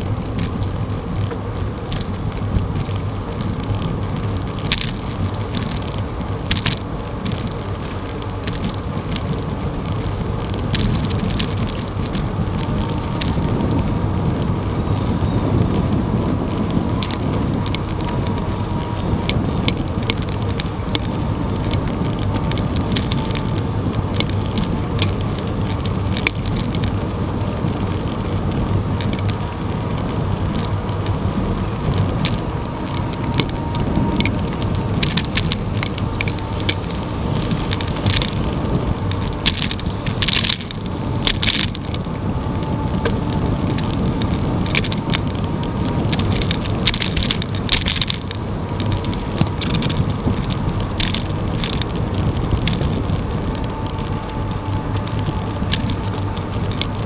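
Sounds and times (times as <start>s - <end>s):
bicycle clicks and rattles: 0.0s - 57.0s
tyres humming on asphalt: 0.0s - 57.0s
wind noise on microphone: 0.0s - 57.0s.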